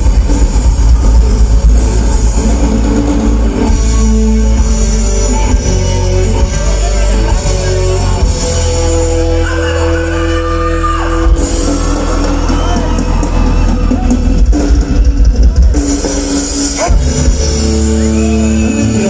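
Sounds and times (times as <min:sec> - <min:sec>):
drum kit: 0:00.0 - 0:19.0
live rock band playing: 0:00.0 - 0:19.0.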